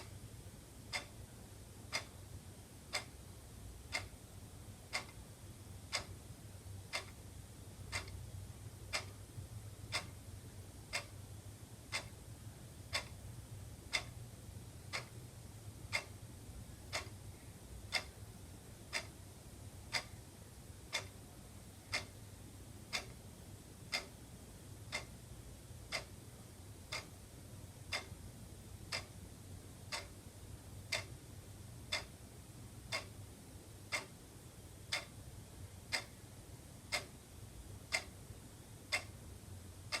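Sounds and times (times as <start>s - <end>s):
faint low hum: 0.0s - 40.0s
wall clock ticking: 0.0s - 40.0s.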